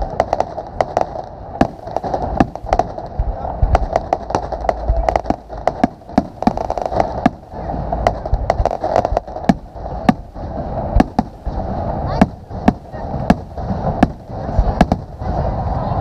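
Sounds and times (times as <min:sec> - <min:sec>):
fireworks exploding: 0:00.0 - 0:15.8
crackling hiss: 0:00.0 - 0:16.0.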